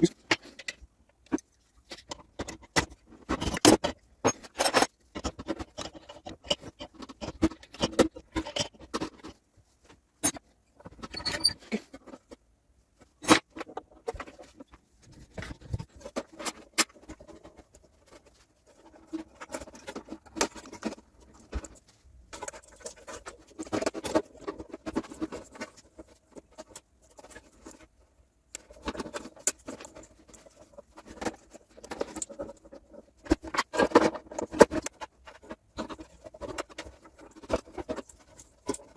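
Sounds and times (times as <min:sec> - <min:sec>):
small parts and tools clicking: 0:00.0 - 0:38.9.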